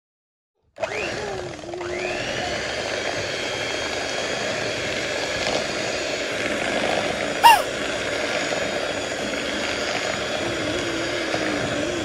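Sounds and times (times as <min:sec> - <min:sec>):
electric hand mixer whisking batter: 0:00.8 - 0:07.4, 0:08.0 - 0:12.0.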